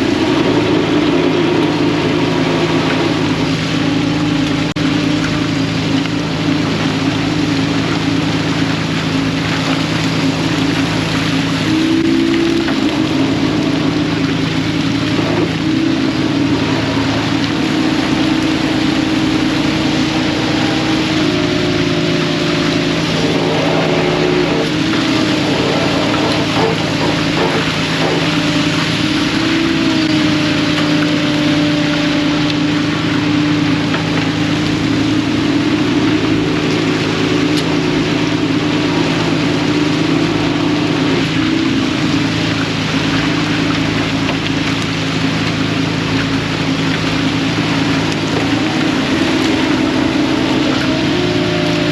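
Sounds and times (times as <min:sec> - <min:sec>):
boat engine running: 0:00.0 - 0:51.9
rushing water: 0:00.0 - 0:51.9
wind: 0:00.0 - 0:51.9.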